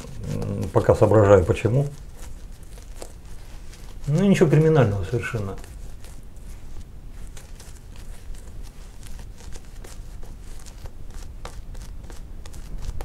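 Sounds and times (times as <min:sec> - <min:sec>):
shaving brush scratchy strokes: 0:00.0 - 0:13.0.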